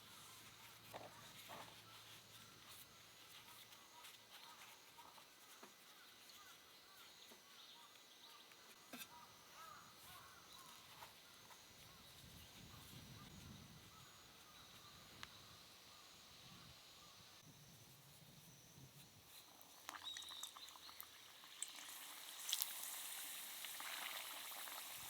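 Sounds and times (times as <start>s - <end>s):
faint outdoor ambience: 0.0s - 25.0s.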